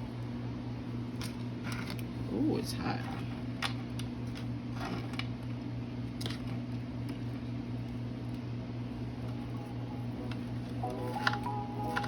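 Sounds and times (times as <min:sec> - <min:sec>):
kitchen appliance hum: 0:00.0 - 0:12.0.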